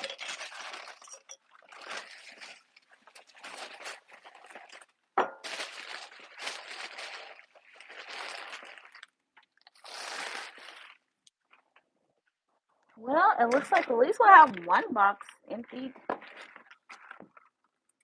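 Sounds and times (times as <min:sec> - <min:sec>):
packing material rustling: 0:00.0 - 0:11.8, 0:13.4 - 0:17.8.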